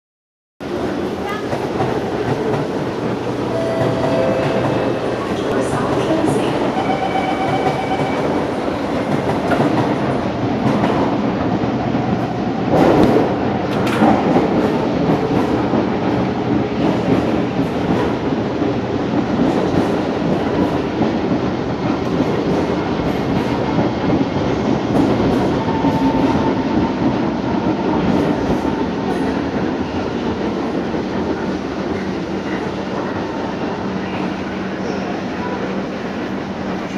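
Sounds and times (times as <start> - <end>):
train wheels rumbling on rail: 0.6 - 36.9.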